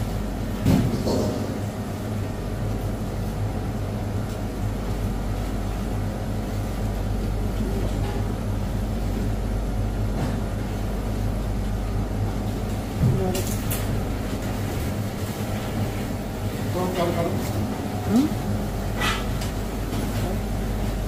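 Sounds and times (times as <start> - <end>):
kitchen machinery humming: 0.0 - 21.0.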